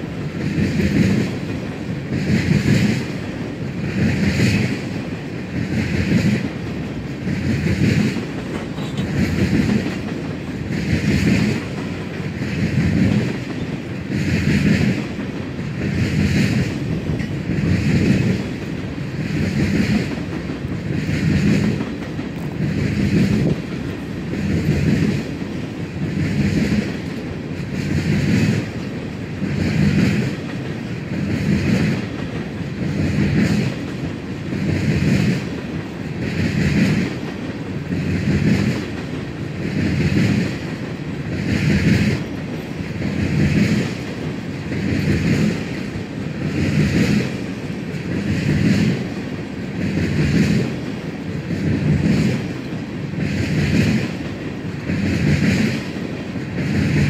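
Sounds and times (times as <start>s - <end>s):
freight train wheels clacking: 0.0s - 57.0s
train rumble: 0.0s - 57.0s.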